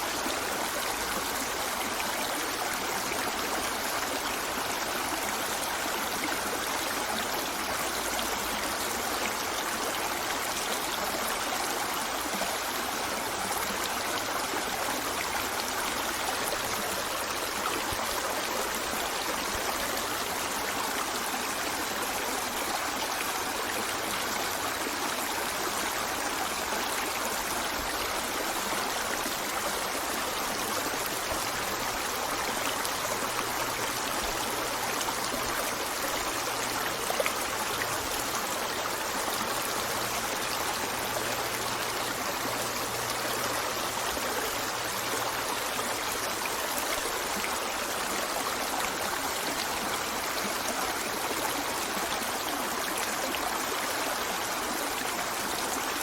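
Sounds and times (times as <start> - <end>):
river flowing over stones: 0.0 - 56.0.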